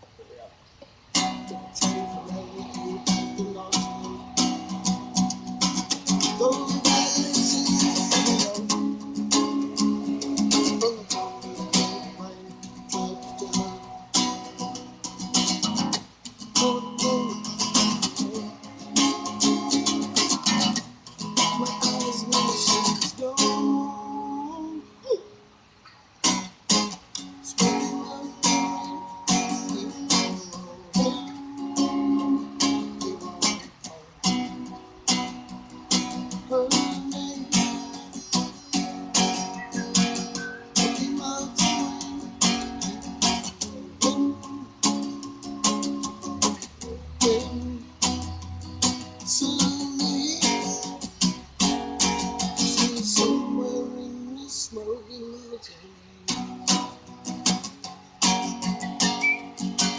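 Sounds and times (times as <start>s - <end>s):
acoustic guitar strumming: 0.9s - 59.9s.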